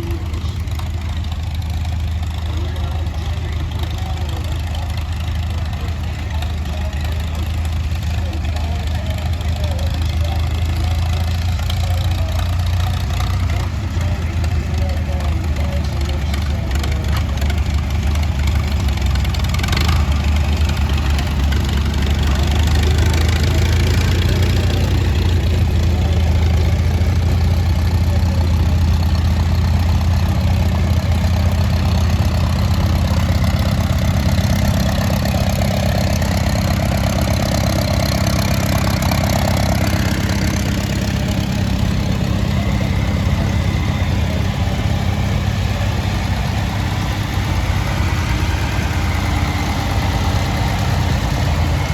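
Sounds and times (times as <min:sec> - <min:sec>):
tractor engine idling: 0:00.0 - 0:51.9.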